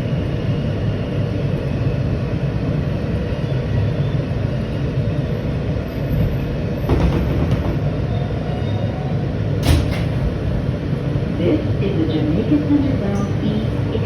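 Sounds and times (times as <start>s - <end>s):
subway train rumble: 0.0s - 14.0s.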